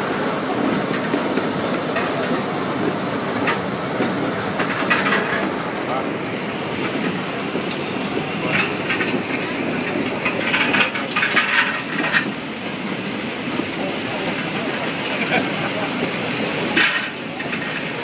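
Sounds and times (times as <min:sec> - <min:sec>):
train car rattling: 0:00.0 - 0:18.0
train car rumbling on track: 0:00.0 - 0:18.0.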